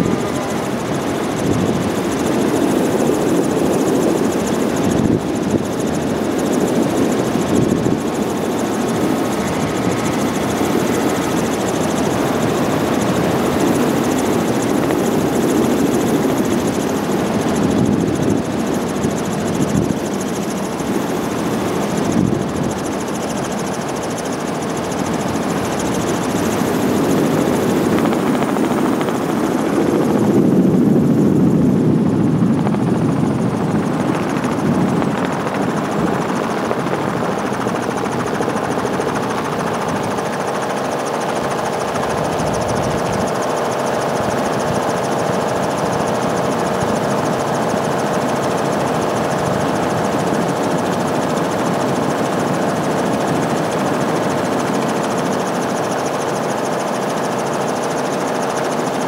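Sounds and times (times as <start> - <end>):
helicopter rotor and engine noise: 0.0 - 59.0.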